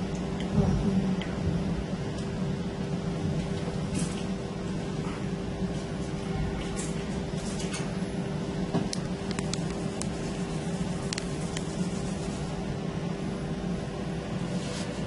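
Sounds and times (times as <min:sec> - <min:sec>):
laminating machine humming: 0:00.0 - 0:15.0.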